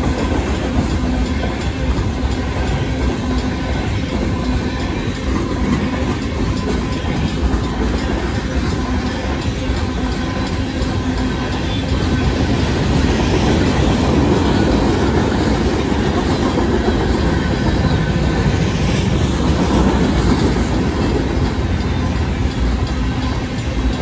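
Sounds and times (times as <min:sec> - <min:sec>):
crossing bells ringing: 0:00.0 - 0:24.0
freight train rumbling past: 0:00.0 - 0:24.0.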